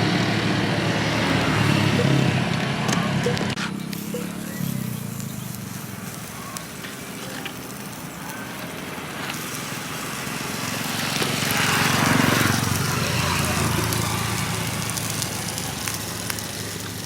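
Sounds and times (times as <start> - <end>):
low engine hum: 0.0 - 17.0
skewers sizzling on a grill: 0.0 - 17.0.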